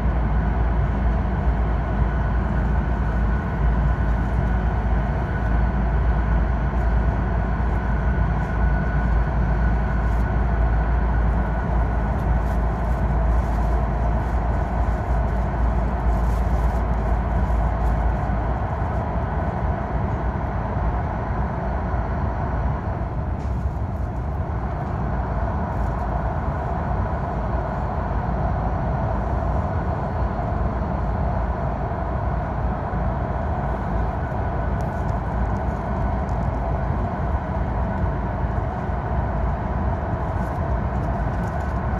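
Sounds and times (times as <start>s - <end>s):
train running in a tunnel: 0.0s - 41.9s.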